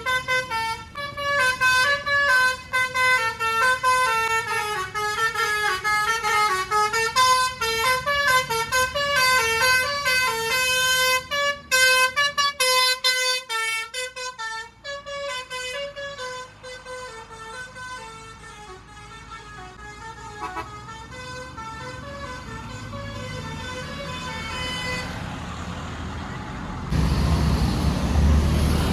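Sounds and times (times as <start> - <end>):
bus musical horn melody: 0.0 - 25.3.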